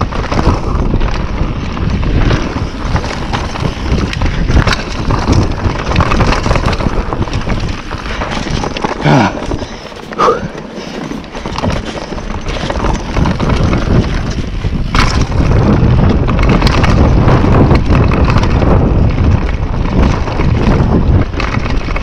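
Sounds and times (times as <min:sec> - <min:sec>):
bike rattling over bumps: 0:00.0 - 0:22.0
tyres rushing on dirt: 0:00.0 - 0:22.0
wind buffeting microphone: 0:00.0 - 0:22.0.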